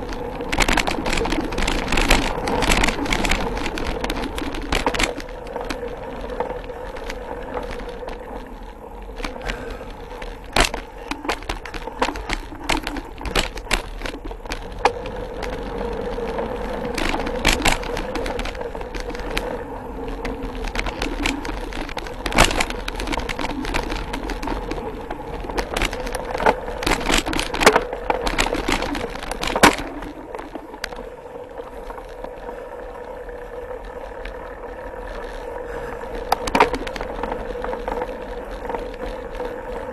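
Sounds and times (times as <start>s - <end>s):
bike clacking and rattling: 0.0s - 39.9s
bike tyres rushing over dirt: 0.0s - 39.9s
constant hum: 0.0s - 39.9s.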